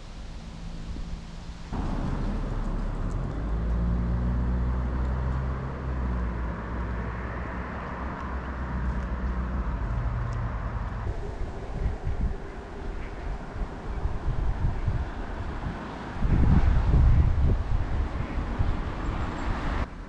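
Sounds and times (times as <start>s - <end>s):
tyre and road noise: 0.0s - 20.0s
vehicle engine hum: 0.0s - 20.0s.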